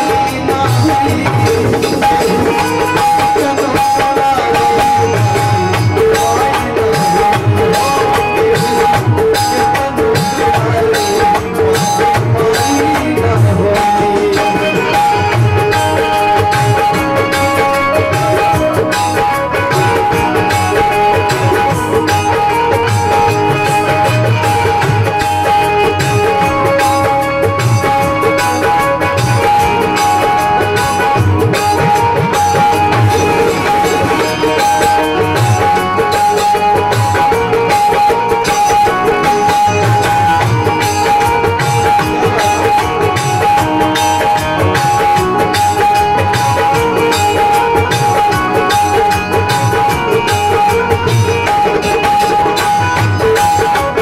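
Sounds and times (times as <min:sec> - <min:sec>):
electronic keyboard melody: 0:00.0 - 0:54.0
steady drum beat: 0:00.0 - 0:54.0.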